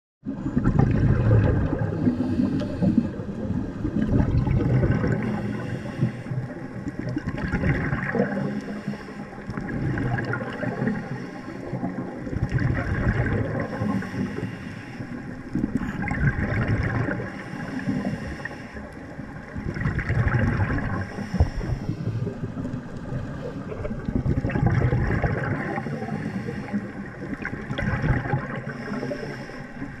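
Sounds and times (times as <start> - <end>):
air bubbles gurgling underwater: 0.2 - 30.0
low watery rumble: 0.2 - 30.0.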